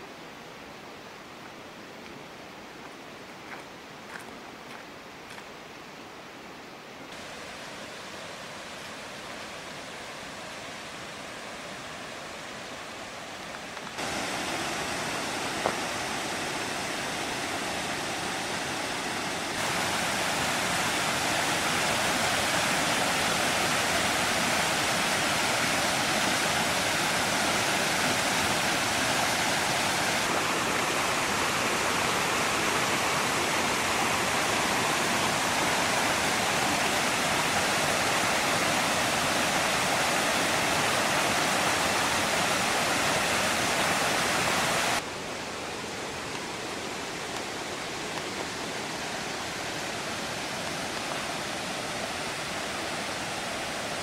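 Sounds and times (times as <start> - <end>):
waterfall roaring: 7.1 - 54.0.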